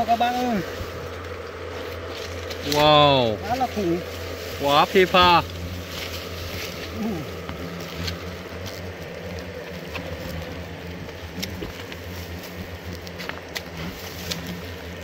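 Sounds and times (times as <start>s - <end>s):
hornets buzzing: 0.0s - 15.0s.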